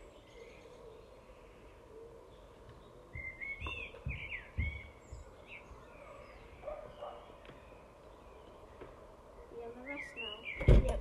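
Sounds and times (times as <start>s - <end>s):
outdoor background noise: 0.0s - 11.0s
songbird chirping: 0.0s - 11.0s.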